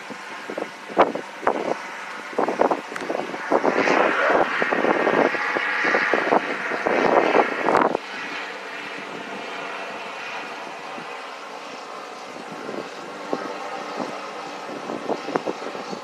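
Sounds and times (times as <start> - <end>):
rushing noise: 0.0 - 16.0
wind buffeting microphone: 0.0 - 16.0.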